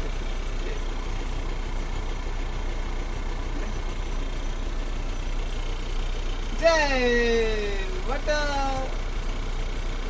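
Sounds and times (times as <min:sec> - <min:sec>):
large vehicle engine idling: 0:00.0 - 0:10.0.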